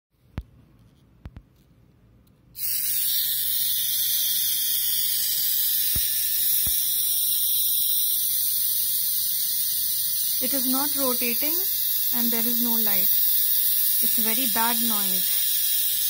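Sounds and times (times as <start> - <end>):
trimmer motor buzzing: 2.6 - 16.0.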